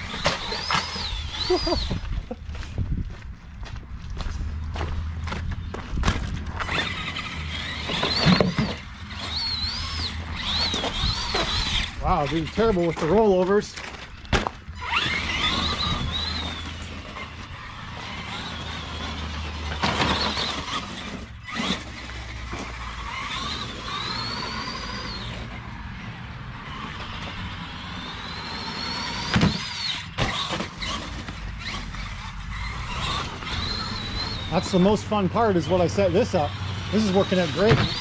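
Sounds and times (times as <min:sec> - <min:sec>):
electric motor whining: 0:00.0 - 0:02.4, 0:05.3 - 0:38.0
tyres crunching gravel: 0:00.0 - 0:38.0.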